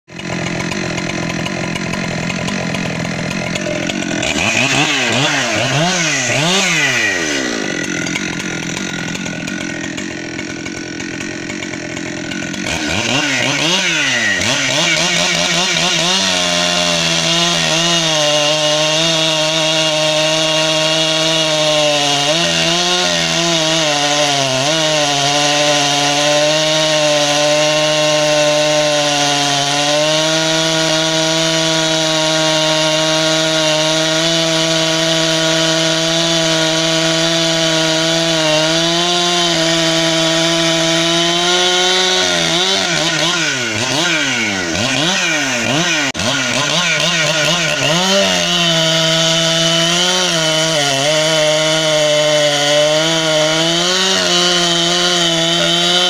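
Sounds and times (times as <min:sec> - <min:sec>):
chainsaw revving and cutting log: 0:00.0 - 0:56.0.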